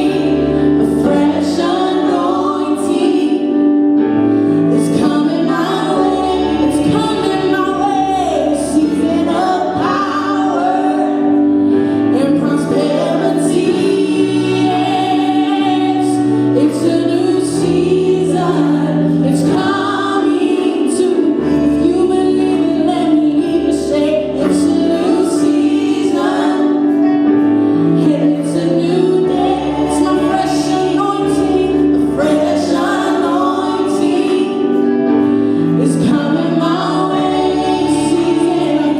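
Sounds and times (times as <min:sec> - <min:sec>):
worship team singing gospel song: 0:00.0 - 0:38.9.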